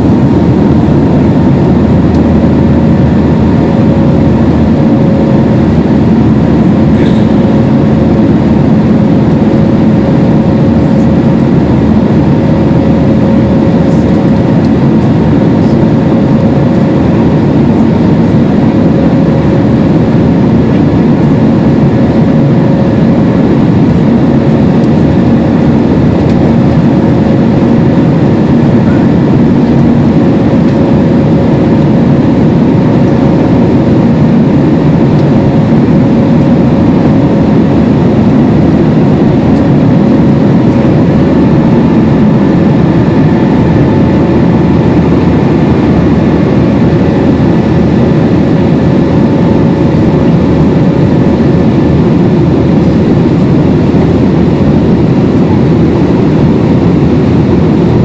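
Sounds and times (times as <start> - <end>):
faint steady whine: 0.0 - 58.0
jet engine drone: 0.0 - 58.0.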